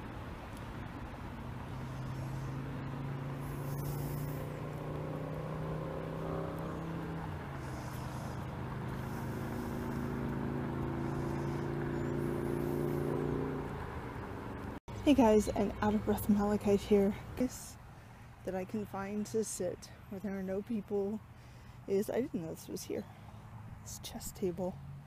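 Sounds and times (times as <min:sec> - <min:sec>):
vehicle engine hum: 0:00.0 - 0:25.0.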